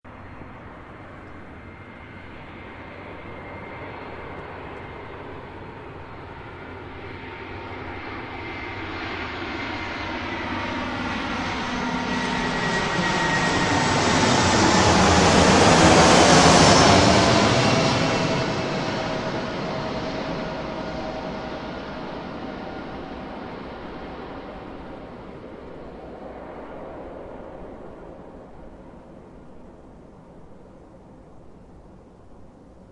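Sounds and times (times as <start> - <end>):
jet aircraft flying past: 0.1 - 32.4.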